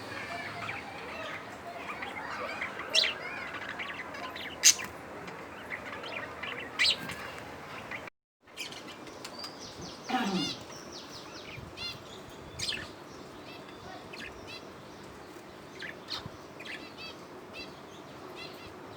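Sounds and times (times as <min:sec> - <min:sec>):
budgies chirping and chattering: 0:00.0 - 0:18.9.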